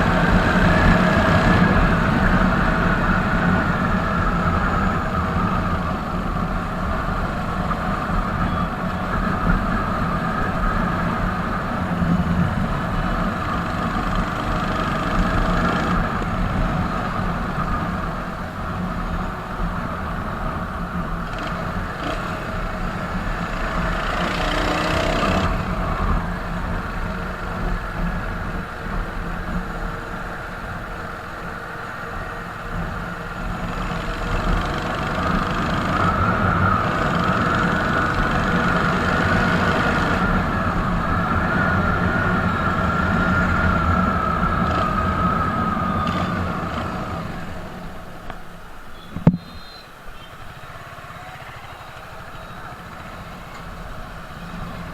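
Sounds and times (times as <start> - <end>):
motorcycle engine and exhaust: 0.0 - 54.9.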